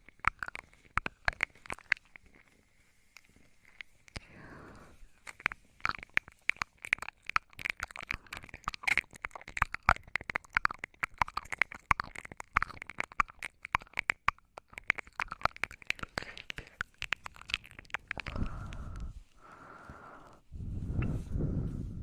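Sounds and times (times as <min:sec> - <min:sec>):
wet lip and tongue clicks: 0:00.0 - 0:21.9.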